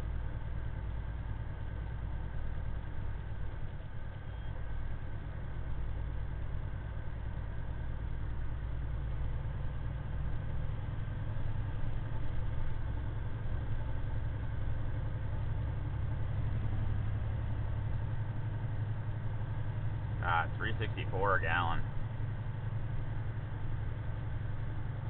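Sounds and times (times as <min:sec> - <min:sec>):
truck diesel engine droning: 0:00.0 - 0:25.0.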